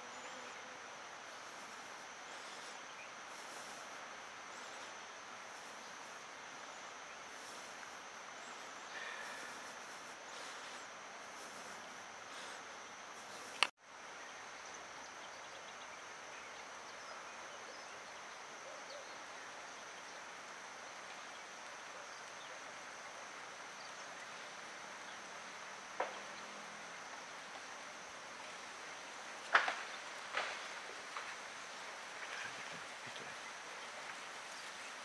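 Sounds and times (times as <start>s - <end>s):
even hiss: 0.0s - 35.0s.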